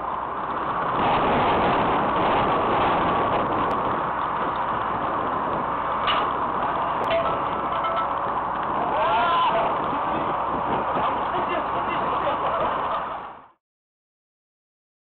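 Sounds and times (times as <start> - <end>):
outdoor background noise: 0.0 - 13.6.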